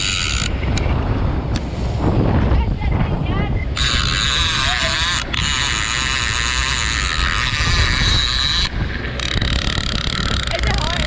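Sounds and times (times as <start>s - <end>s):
boat engine running: 0.0s - 11.0s
wind on microphone: 0.0s - 11.0s.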